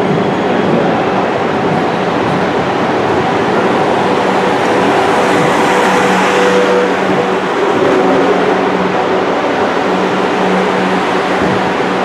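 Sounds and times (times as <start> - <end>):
electric traction hum: 0.0 - 12.0
train wheels on rail: 0.0 - 12.0.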